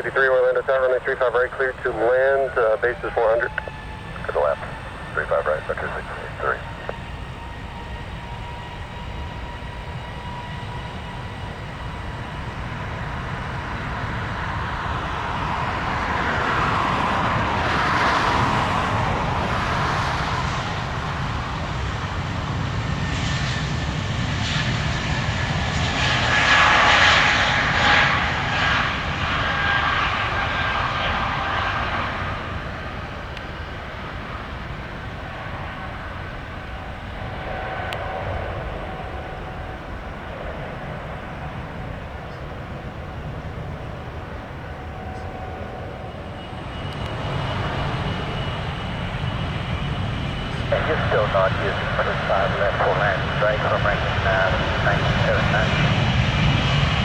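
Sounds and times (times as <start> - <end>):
jet airliner passing: 0.0 - 57.0
jet engine whistling whine: 0.0 - 57.0.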